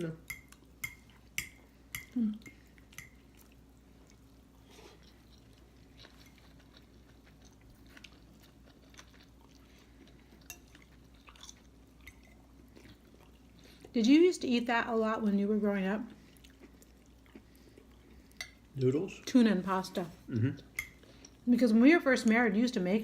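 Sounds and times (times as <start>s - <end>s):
people chewing food: 0.3s - 14.0s, 15.7s - 22.4s.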